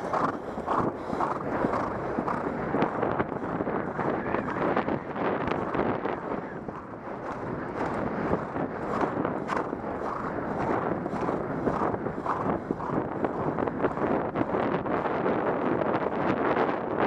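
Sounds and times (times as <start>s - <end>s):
horse hoofbeats on grass: 0.0s - 15.6s
wind buffeting microphone: 0.0s - 17.0s.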